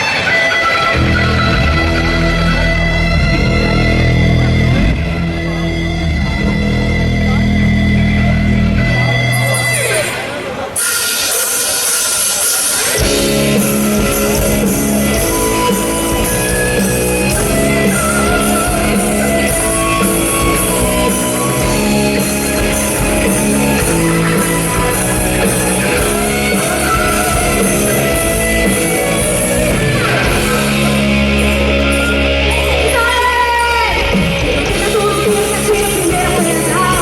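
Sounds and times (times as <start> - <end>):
electric guitar sustained notes: 0.0 - 37.0
rock band playing live: 0.0 - 37.0.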